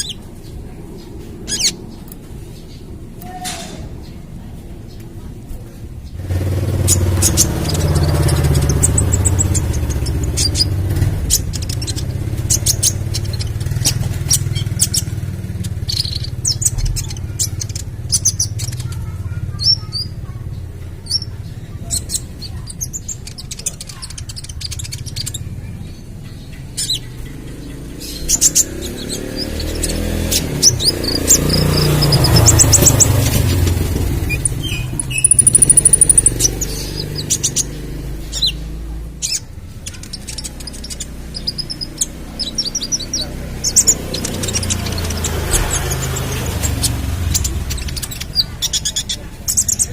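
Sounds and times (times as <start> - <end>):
bird chirping and trilling: 0.0 - 5.2, 6.0 - 49.9.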